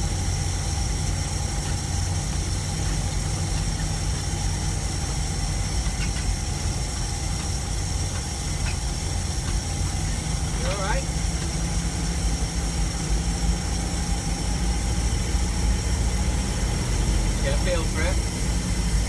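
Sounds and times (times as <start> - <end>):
engine rumbling while driving: 0.0 - 19.0.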